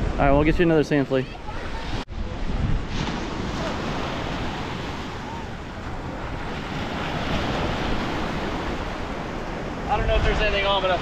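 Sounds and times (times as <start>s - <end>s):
ocean surf on beach: 0.0s - 11.0s
wind blowing on microphone: 0.0s - 11.0s.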